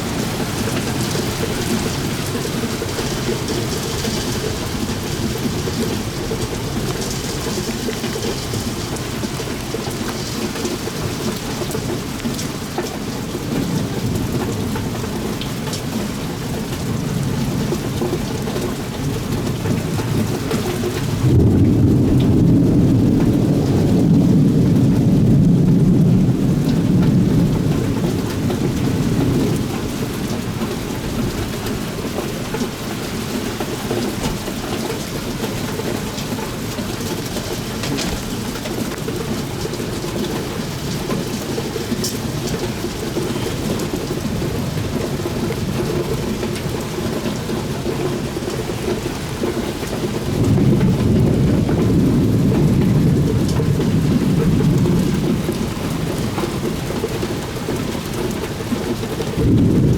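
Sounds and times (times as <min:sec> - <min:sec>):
low rumble of thunder: 0:00.0 - 0:59.9
steady rain: 0:00.0 - 0:59.9.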